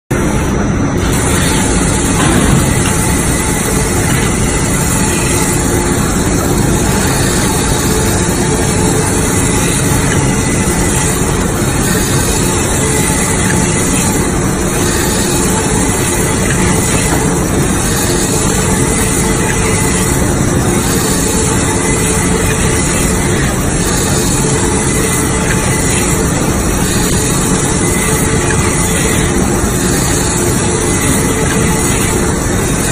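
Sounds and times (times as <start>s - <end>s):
slitting machine running: 0.1s - 32.9s.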